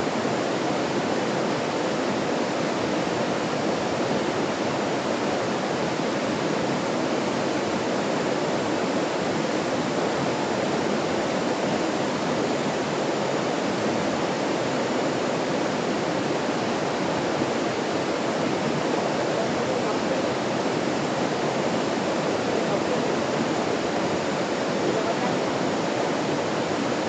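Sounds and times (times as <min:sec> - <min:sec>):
stream flowing: 0:00.0 - 0:27.0.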